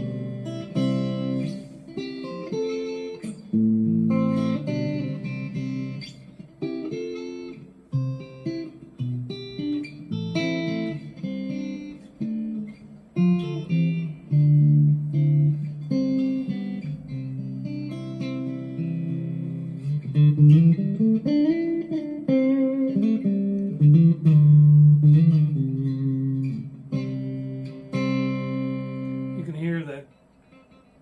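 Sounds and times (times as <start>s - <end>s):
clean electric guitar chords and notes: 0.0s - 31.0s.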